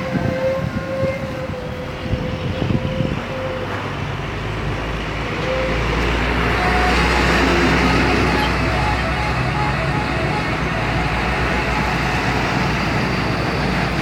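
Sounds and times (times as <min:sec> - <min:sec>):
bus diesel engine rumbling: 0:00.0 - 0:14.0
road and tyre noise: 0:00.0 - 0:14.0.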